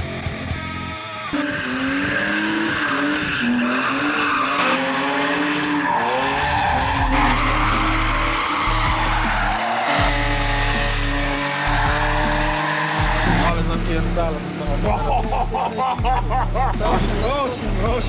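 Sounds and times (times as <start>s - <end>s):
car engine revving: 0.0s - 18.0s
tyres squealing: 2.1s - 18.0s.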